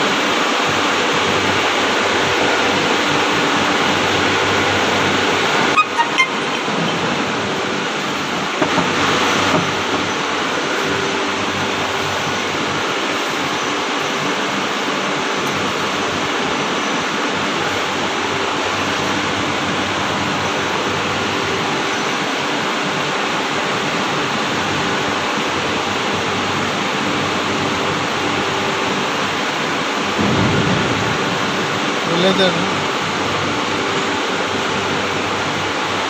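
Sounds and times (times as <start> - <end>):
rushing background noise: 0.0 - 36.0.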